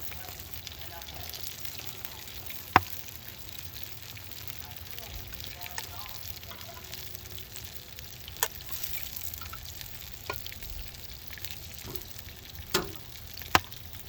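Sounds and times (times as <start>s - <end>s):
squid sizzling in oven: 0.0s - 14.0s.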